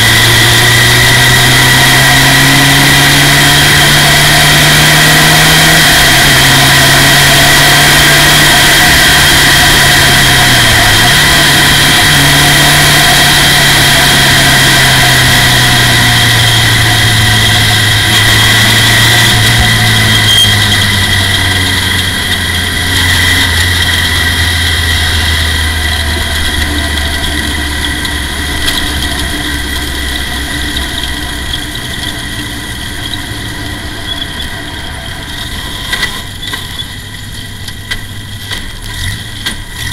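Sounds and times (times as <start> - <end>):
race car engine revs dropping: 0.0 - 37.0.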